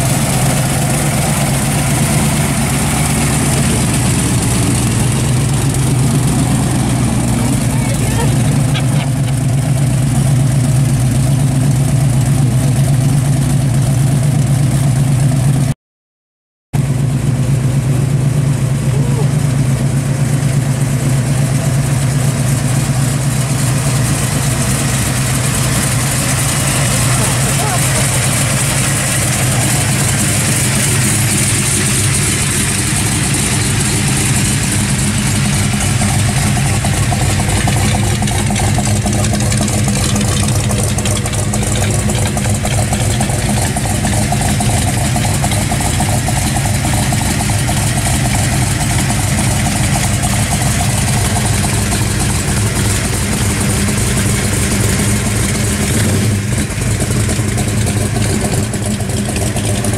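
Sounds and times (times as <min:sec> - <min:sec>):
car engine idling: 0:00.0 - 0:15.8, 0:16.8 - 0:59.9.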